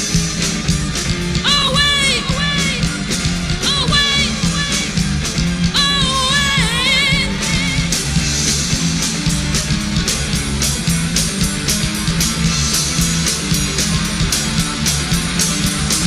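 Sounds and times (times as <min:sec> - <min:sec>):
rock band playing loudly: 0:00.0 - 0:16.0
wavering lead guitar line: 0:00.0 - 0:16.0.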